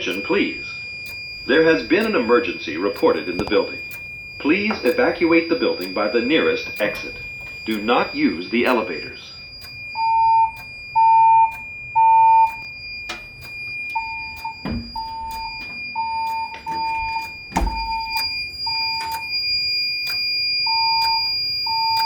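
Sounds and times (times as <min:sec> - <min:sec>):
pulsed alert beeps: 0:00.0 - 0:22.0
steady high whine: 0:00.0 - 0:22.0.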